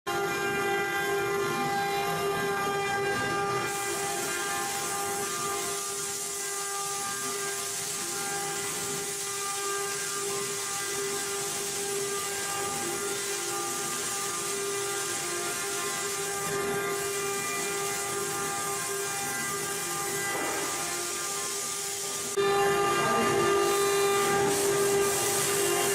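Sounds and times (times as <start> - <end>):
router spindle high whine: 0.1 - 25.9.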